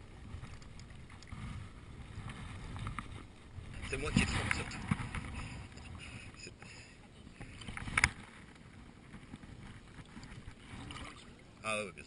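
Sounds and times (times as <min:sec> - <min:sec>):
water lapping and sloshing: 0:00.0 - 0:12.0.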